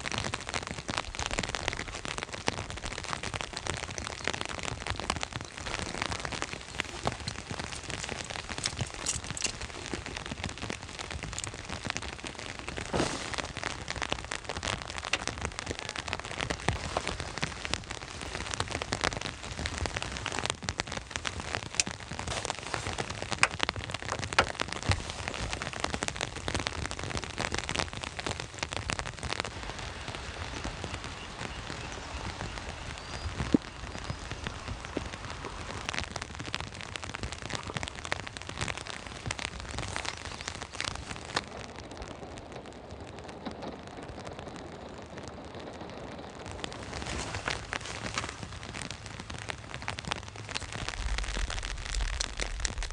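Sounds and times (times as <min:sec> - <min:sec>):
raindrops tapping on a surface: 0:00.0 - 0:52.9.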